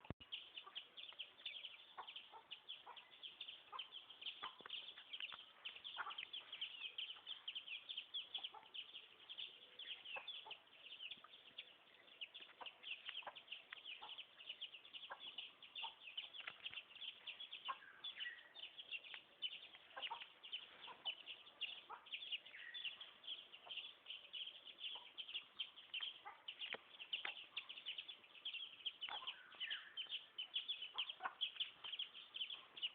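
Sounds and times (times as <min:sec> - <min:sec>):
many birds chirping: 0:00.0 - 0:32.9.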